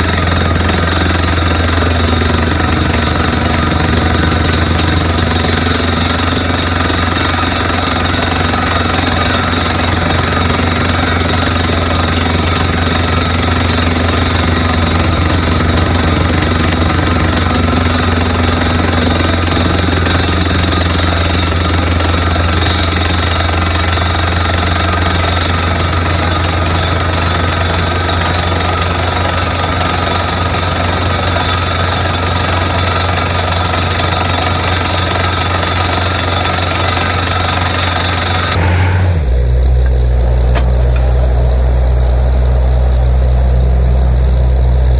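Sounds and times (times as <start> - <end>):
drill hammer pounding: 0.0 - 44.9
engine and compressor drone: 0.0 - 44.9.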